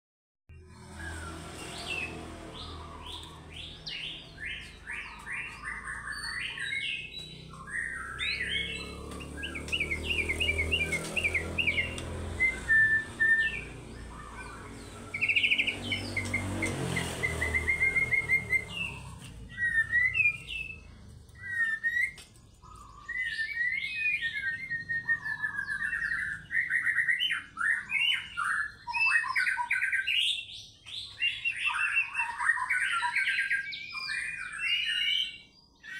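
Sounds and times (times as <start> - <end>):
bird singing whistles and trills: 0.6 - 35.9.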